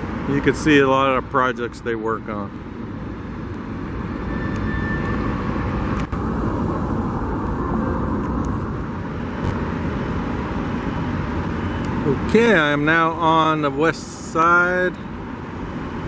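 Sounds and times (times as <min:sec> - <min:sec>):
vehicle noise roar: 0:00.0 - 0:16.0.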